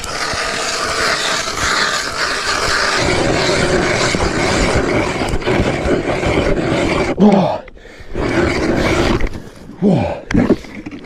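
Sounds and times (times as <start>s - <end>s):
ice auger grinding through ice: 0.0s - 11.0s.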